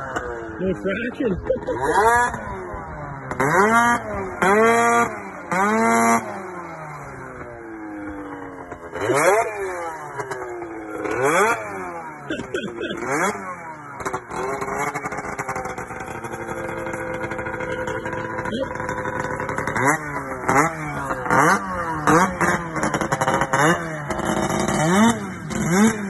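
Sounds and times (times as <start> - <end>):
snowmobile engine revving: 0.0 - 26.0.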